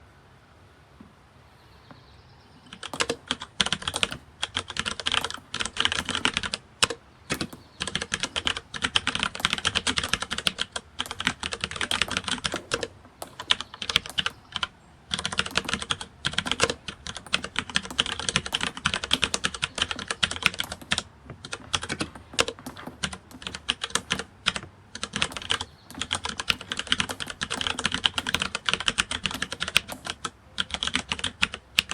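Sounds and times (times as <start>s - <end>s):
keyboard typing: 2.6s - 31.9s.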